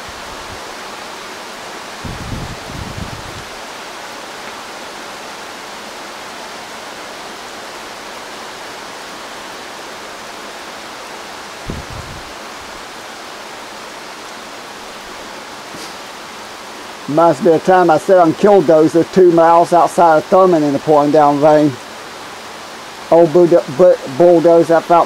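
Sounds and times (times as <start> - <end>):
heavy rain on leaves: 0.0 - 25.0.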